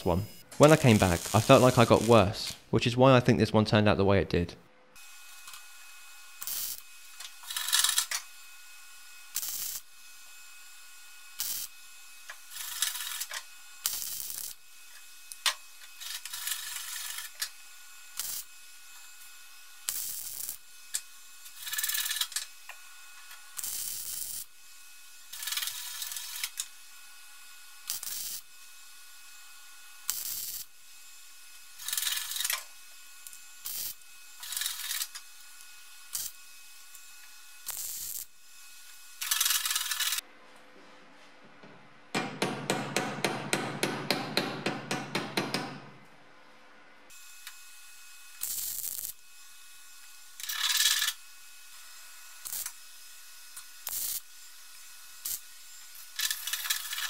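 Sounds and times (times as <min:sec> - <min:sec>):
welding arc crackle: 0:00.0 - 0:02.7, 0:05.0 - 0:26.9, 0:27.8 - 0:40.2, 0:47.1 - 0:57.0.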